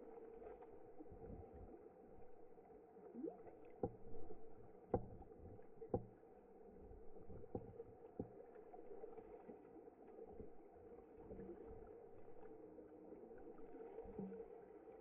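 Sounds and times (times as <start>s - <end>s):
water sloshing and lapping: 0.0s - 15.0s.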